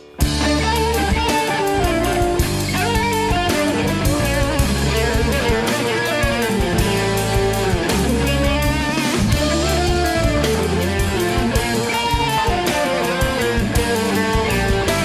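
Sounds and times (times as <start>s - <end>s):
bass: 0.0s - 15.0s
electric guitar melody: 0.0s - 15.0s
steady drum beat: 0.0s - 15.0s.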